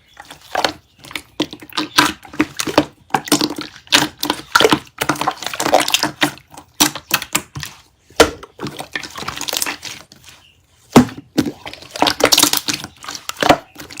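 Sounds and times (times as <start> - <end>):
slime wet squelches: 0.0 - 14.0.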